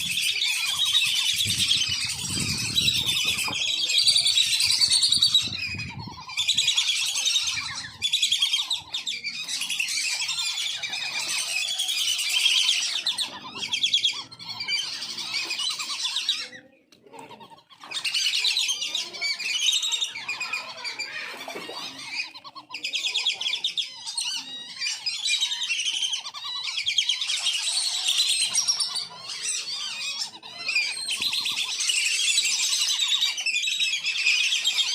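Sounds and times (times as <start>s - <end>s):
ducks whistling: 0.0s - 34.9s.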